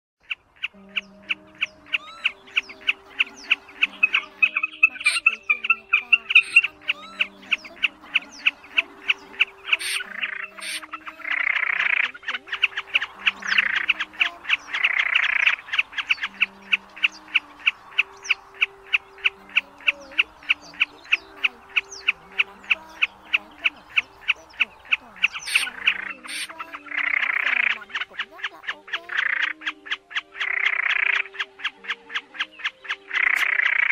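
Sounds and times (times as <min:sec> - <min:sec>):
bird ticking calls: 0:00.2 - 0:33.9
harsh rasping bird calls: 0:00.2 - 0:33.9.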